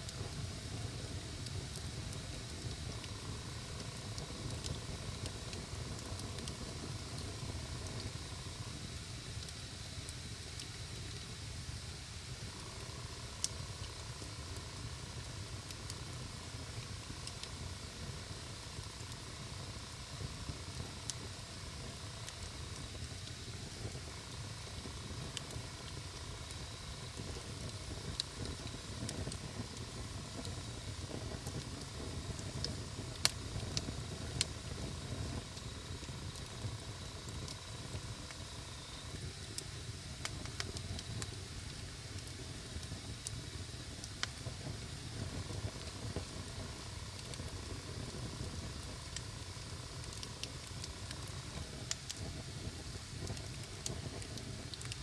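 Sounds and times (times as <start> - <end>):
campfire rumble and hiss: 0.0 - 55.0
fire pops and crackles: 0.0 - 55.0.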